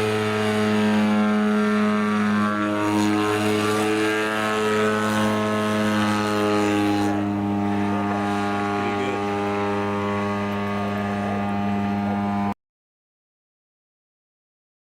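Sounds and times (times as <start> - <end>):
model airplane engine running: 0.0 - 12.6.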